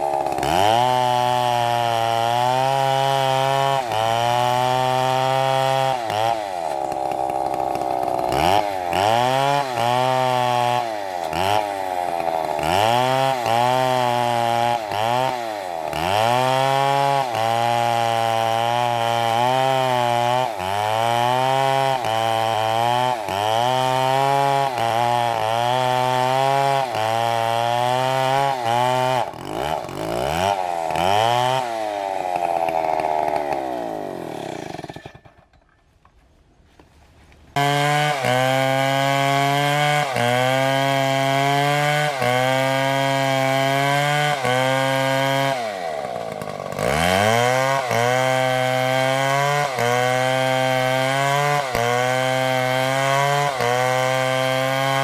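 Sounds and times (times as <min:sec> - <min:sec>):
chainsaw cutting wood: 0:00.0 - 0:35.9, 0:37.4 - 0:55.0.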